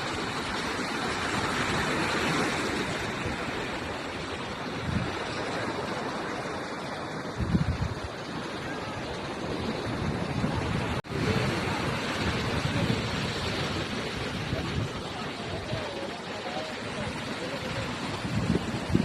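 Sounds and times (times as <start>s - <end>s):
wind buffeting microphone: 0.0s - 6.0s, 7.2s - 19.0s
steady rushing noise: 0.0s - 19.0s.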